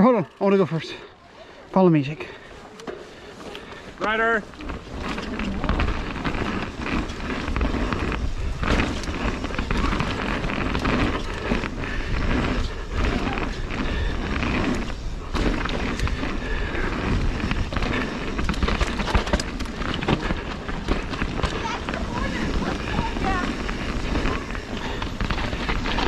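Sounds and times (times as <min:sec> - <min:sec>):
bike tyres rolling on dirt: 0:00.0 - 0:26.0
bike rattling and clicking: 0:02.1 - 0:26.0
wind buffeting microphone: 0:03.7 - 0:26.0.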